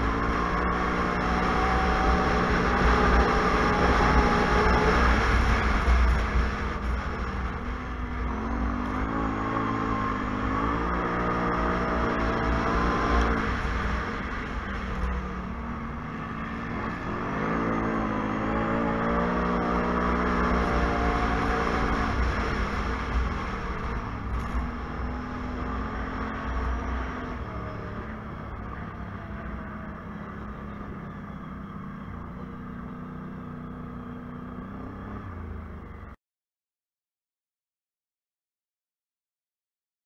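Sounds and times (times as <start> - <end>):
atv engine accelerating: 0.0 - 36.1.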